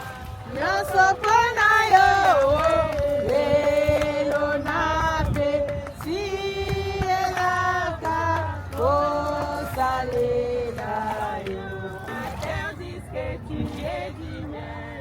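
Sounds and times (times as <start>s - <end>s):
voices singing worship song: 0.0s - 15.0s.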